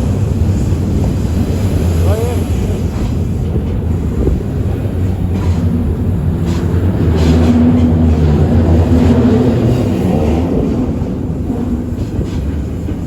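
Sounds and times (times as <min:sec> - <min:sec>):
diesel train rumbling past: 0:00.0 - 0:13.0.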